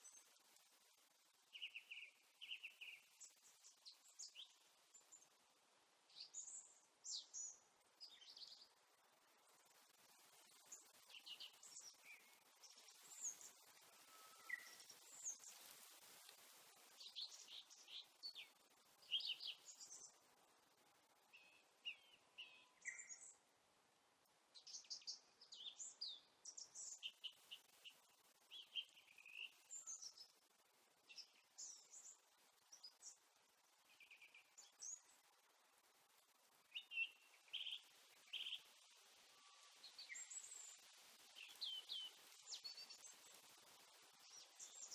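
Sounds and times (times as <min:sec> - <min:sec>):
small birds chirping: 0:00.0 - 0:23.5, 0:24.5 - 0:44.9
faint steady hiss: 0:00.0 - 0:44.9.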